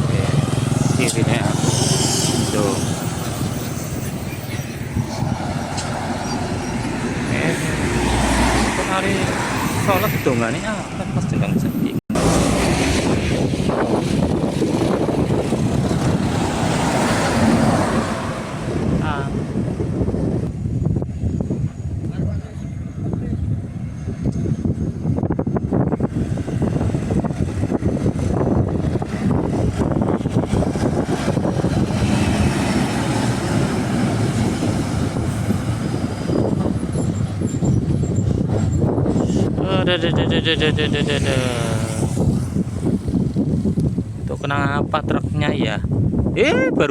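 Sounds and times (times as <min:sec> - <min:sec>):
road noise: 0:00.0 - 0:46.9
truck rumbling: 0:00.0 - 0:46.9
wind buffeting microphone: 0:00.0 - 0:46.9.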